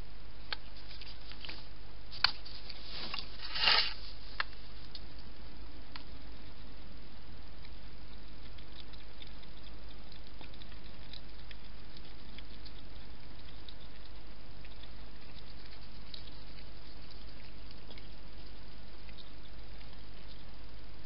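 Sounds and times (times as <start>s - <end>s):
microphone hiss and hum: 0.0s - 21.0s
faint small ticks and clicks: 0.4s - 3.4s, 4.0s - 21.0s.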